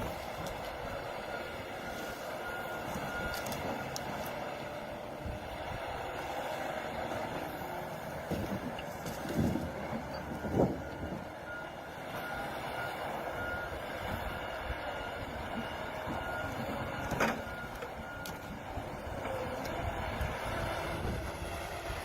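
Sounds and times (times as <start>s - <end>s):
diesel engine running: 0.0s - 22.0s
reversing alarm beeping: 0.0s - 22.0s.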